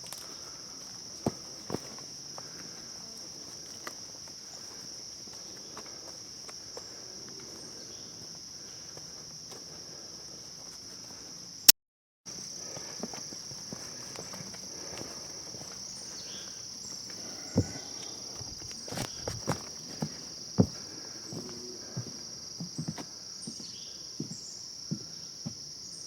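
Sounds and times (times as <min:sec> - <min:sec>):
insects buzzing: 0:00.0 - 0:11.7, 0:12.3 - 0:26.0.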